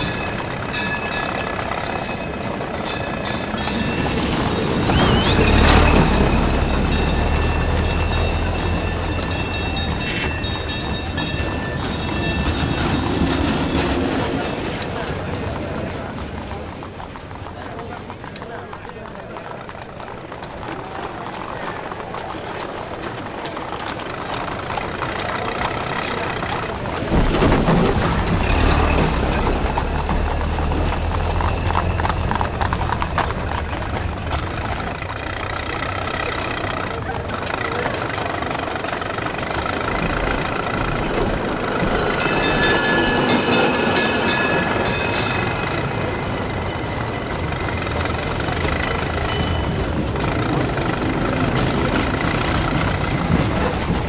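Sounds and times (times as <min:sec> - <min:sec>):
street noise: 0:00.0 - 0:54.0
voices: 0:00.0 - 0:54.0.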